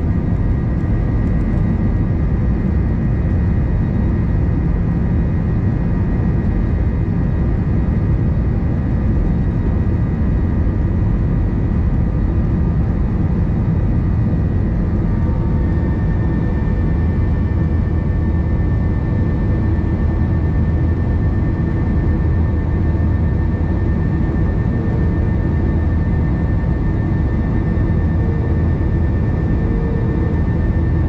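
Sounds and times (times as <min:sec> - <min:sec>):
jet engine roar in cabin: 0:00.0 - 0:31.0.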